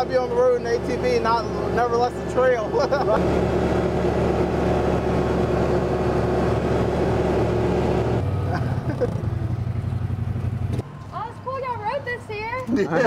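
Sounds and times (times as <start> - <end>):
utility vehicle engine running: 0.0 - 11.2.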